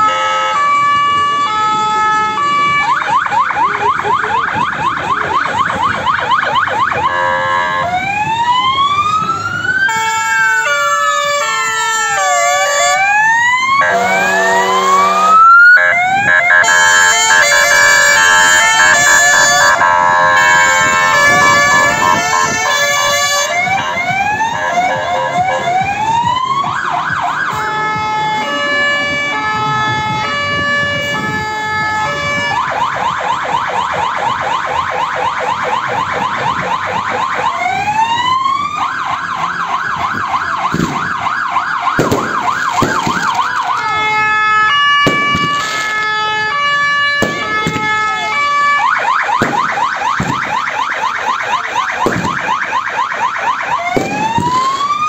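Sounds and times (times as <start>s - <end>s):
fire engine sirens: 0.0s - 55.0s.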